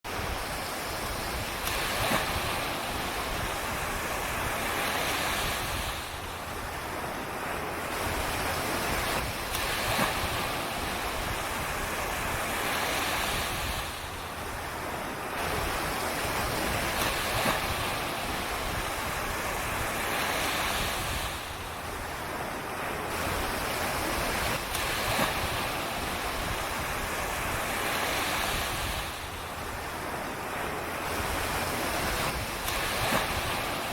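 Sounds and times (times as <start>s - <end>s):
surf breaking on beach: 0.1s - 33.9s
wind rumbling on microphone: 0.1s - 33.9s.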